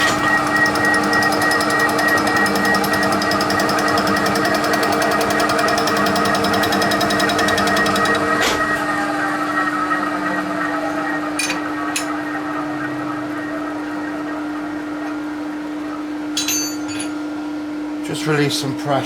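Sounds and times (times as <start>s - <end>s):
milling machine hum: 0.0s - 19.0s.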